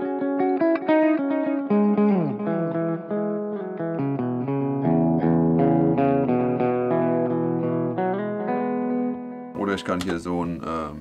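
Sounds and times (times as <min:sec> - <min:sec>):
electric guitar with delay echoes: 0:00.0 - 0:09.6.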